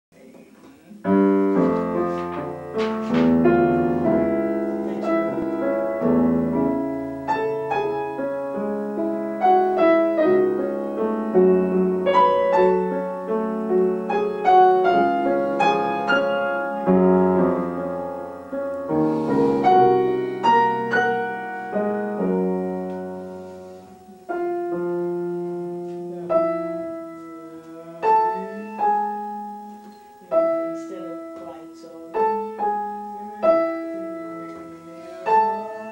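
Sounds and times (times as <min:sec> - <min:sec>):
two pianos playing: 0:00.9 - 0:35.9.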